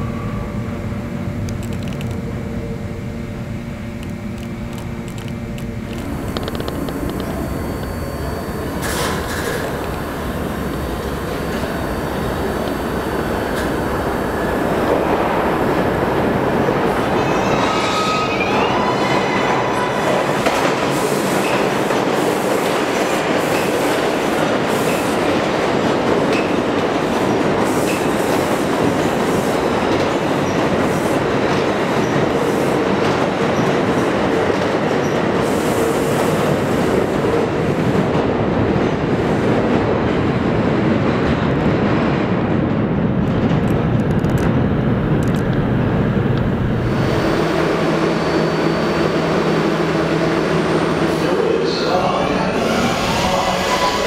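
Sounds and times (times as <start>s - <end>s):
subway train rumble: 0.0s - 54.0s.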